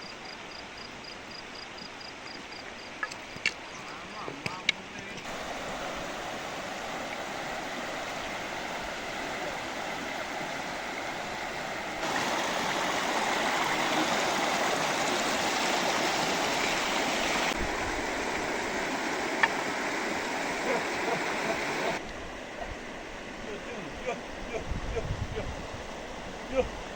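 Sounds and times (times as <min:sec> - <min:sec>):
mountain stream rushing: 0:05.2 - 0:26.9.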